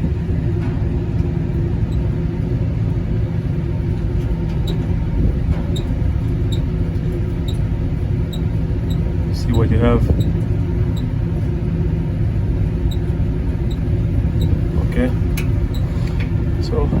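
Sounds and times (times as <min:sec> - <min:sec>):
heating unit blower rumble: 0:00.0 - 0:17.0.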